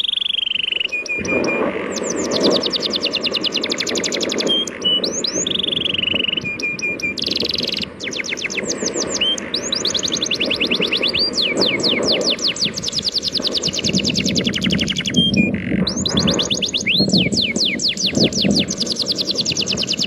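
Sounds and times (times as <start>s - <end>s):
songbirds chirping: 0.0s - 20.0s
short bird whistles: 0.1s - 20.0s.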